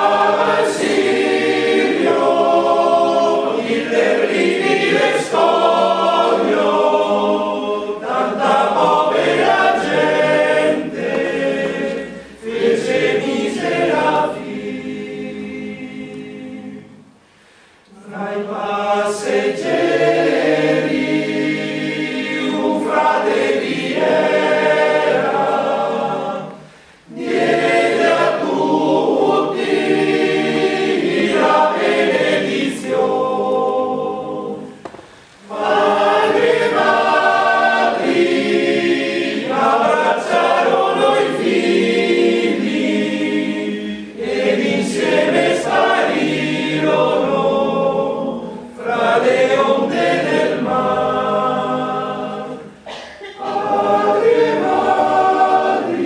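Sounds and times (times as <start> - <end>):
choir singing: 0.0 - 17.2, 17.9 - 56.0.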